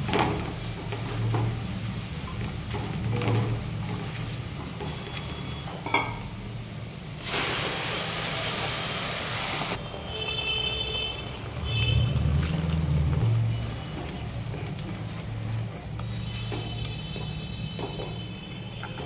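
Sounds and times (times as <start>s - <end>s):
bubbling frying: 0.0s - 19.0s
loud sizzle of paste in oil: 0.0s - 19.0s.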